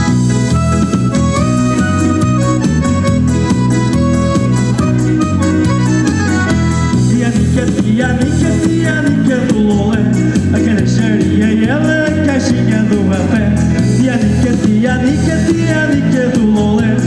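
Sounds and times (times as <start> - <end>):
accordion melody: 0.0 - 16.1
steady bass beat: 0.0 - 17.0.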